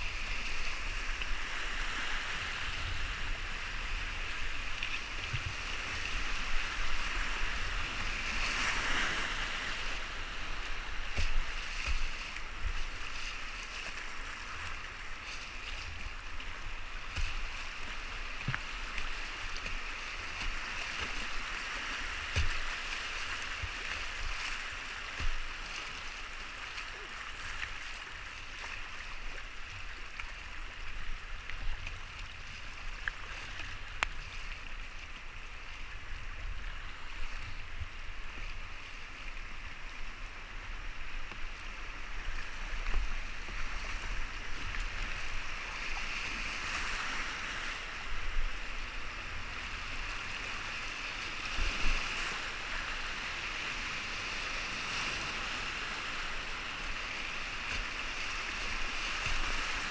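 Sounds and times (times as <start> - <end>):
paddle splashes: 0.0 - 59.9.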